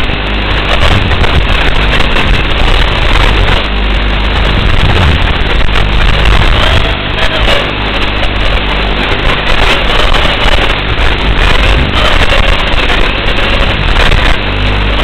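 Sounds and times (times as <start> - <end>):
quadcopter motors buzzing: 0.0 - 15.0.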